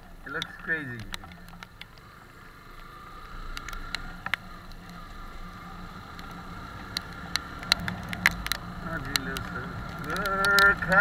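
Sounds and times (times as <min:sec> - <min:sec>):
motorcycle hum and road noise: 0:00.0 - 0:11.0
sharp ticks: 0:00.2 - 0:11.0.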